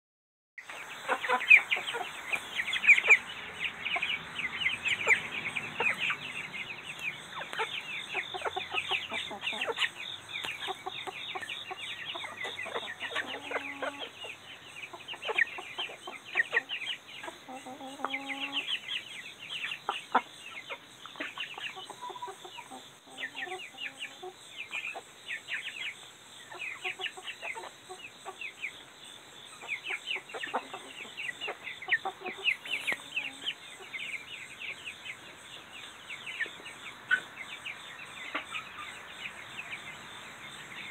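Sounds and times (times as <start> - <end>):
chickens clucking: 0.6 - 40.9.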